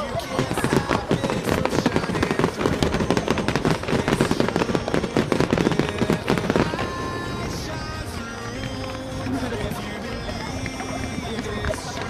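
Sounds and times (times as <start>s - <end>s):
fireworks crackling and banging: 0.0s - 12.0s
music with held tones: 0.0s - 12.0s.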